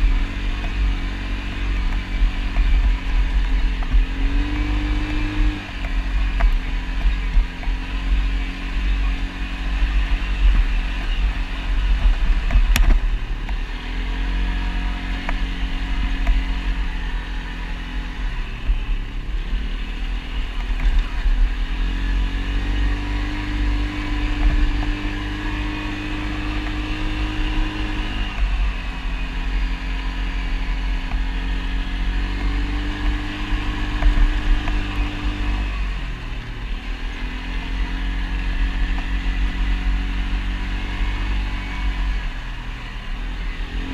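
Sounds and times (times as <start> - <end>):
atv engine revving: 0.0 - 43.9
heavy low rumble: 0.0 - 43.9.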